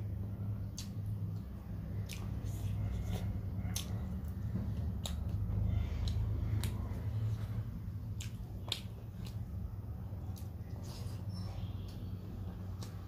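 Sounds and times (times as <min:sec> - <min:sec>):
person chewing food: 0:00.5 - 0:13.0.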